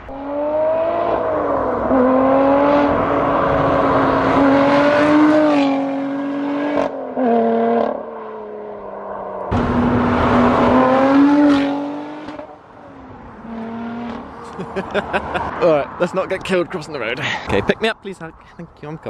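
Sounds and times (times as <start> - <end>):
sports car accelerating hard: 0.0 - 15.6.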